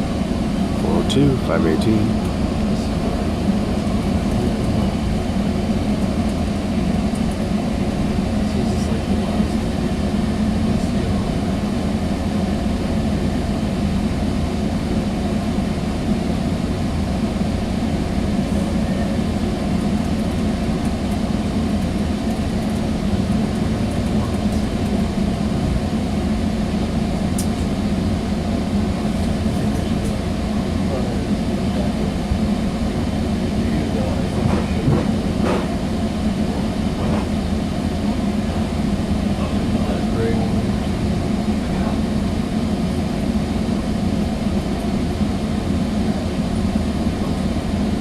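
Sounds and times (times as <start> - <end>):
train coach rumble: 0.0 - 48.0.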